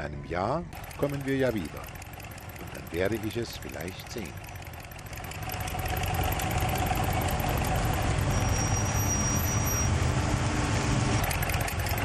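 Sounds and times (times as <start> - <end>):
car engine rumbling: 0.6 - 12.0.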